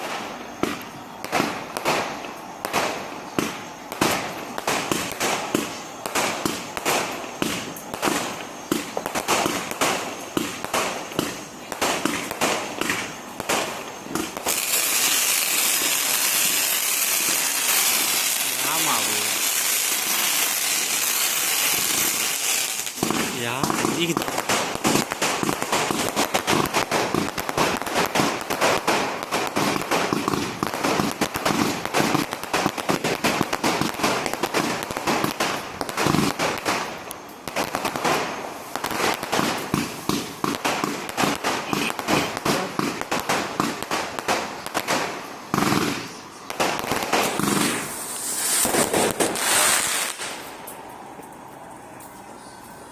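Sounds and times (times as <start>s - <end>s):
fireworks hissing burst: 0.0s - 51.1s
fireworks crackling: 0.0s - 52.9s.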